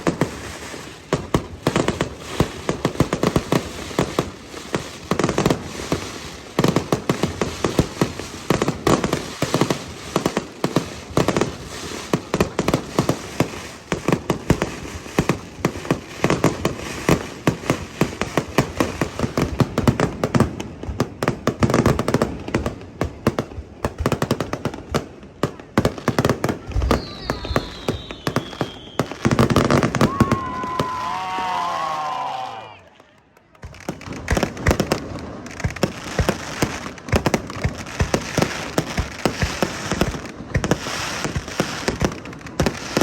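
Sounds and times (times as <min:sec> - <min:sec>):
fireworks bangs and crackles: 0:00.0 - 0:32.3, 0:32.9 - 0:43.0.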